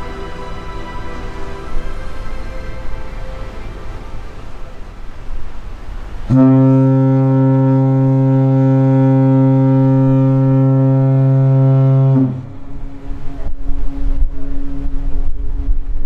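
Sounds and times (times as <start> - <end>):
ship's horn long low blast: 0.0 - 16.0.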